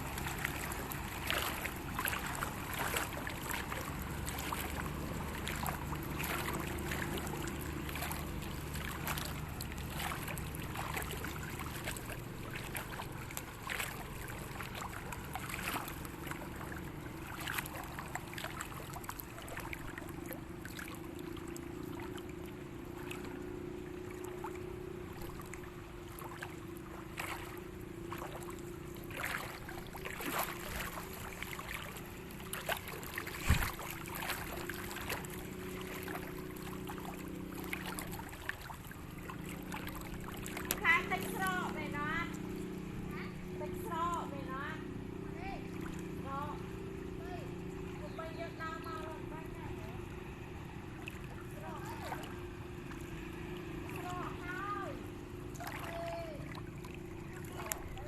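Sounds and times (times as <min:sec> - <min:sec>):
low motor hum: 0:00.0 - 0:58.0.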